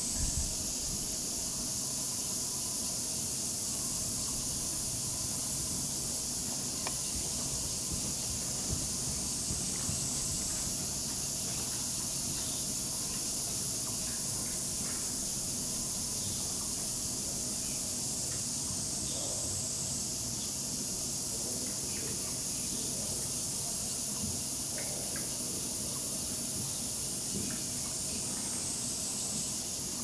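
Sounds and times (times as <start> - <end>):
high-pitched hiss: 0.0 - 30.0.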